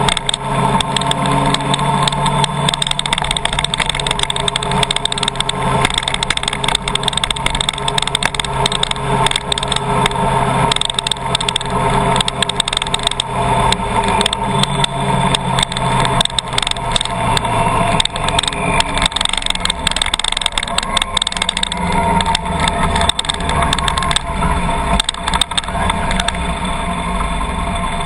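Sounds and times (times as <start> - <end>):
sharp crackles: 0.0 - 26.6
car engine and road noise: 0.0 - 28.0.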